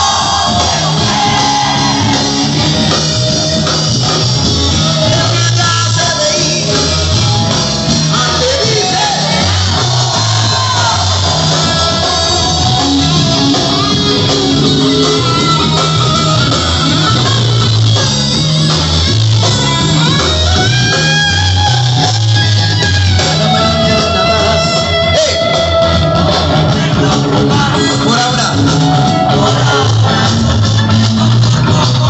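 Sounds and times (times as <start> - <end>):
bass line: 0.0 - 32.0
electric guitar: 0.0 - 32.0.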